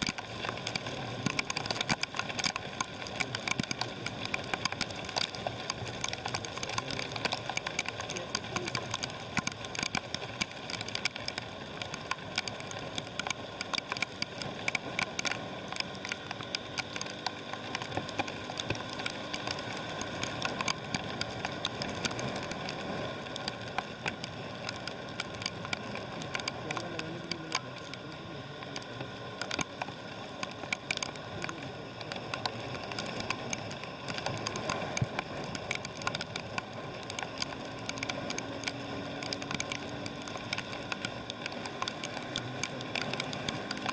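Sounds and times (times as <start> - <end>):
raindrops tapping: 0.0 - 43.9.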